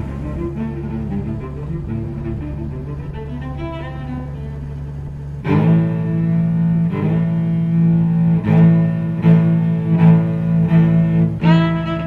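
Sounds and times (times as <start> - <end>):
low drone: 0.0 - 12.0.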